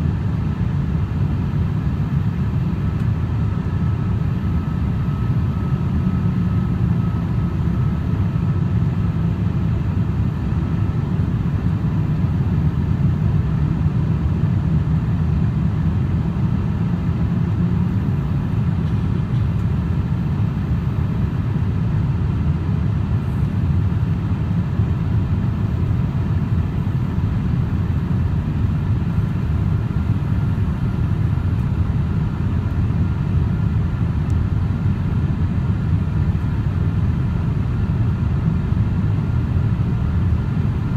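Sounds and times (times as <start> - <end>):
airplane cabin rumble: 0.0 - 40.9
faint steady whine: 0.0 - 40.9.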